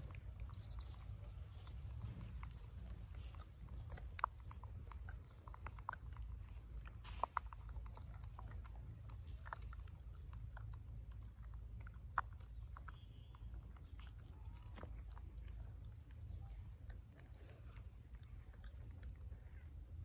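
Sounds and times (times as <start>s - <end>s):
low steady rumble: 0.0s - 20.0s
monkey eating small clicks: 0.0s - 20.0s.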